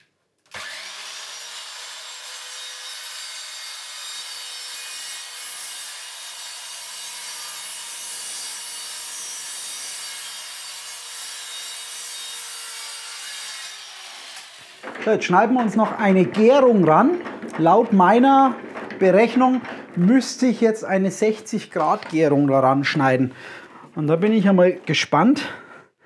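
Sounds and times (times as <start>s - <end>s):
circular saw cutting wood: 0.5s - 23.4s.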